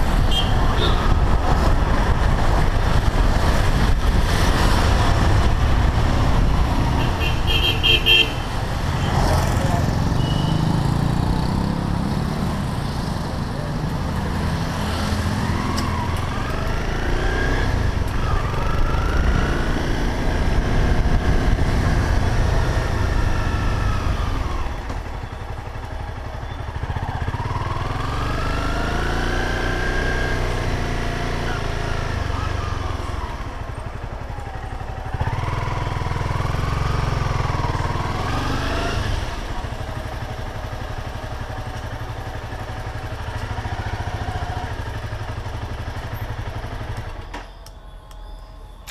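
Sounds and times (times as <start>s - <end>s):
motorcycle engine revving: 0.0s - 47.3s
road and wind noise: 0.0s - 48.9s.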